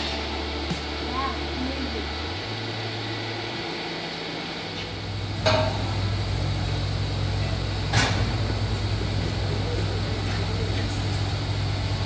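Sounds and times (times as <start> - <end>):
machinery hum: 0.0 - 12.0.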